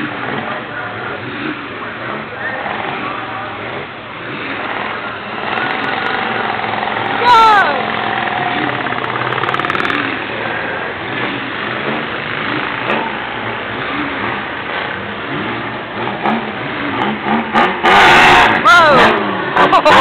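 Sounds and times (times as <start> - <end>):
car engines running: 0.0 - 20.0.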